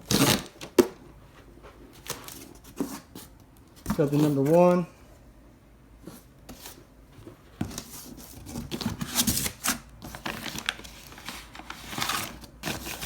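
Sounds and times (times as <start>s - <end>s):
rustling and crinkling handling noise: 0.0s - 5.3s, 5.9s - 13.0s.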